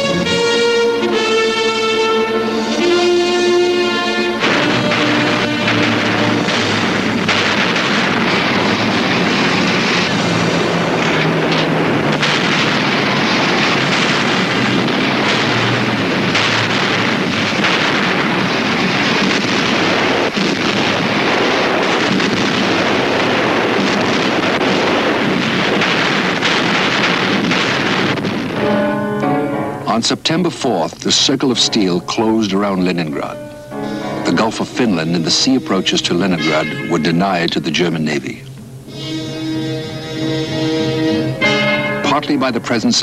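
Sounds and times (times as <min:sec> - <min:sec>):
explosions: 0:00.0 - 0:43.0
heavy naval gunfire: 0:00.0 - 0:43.0
steady rushing noise: 0:00.0 - 0:43.0.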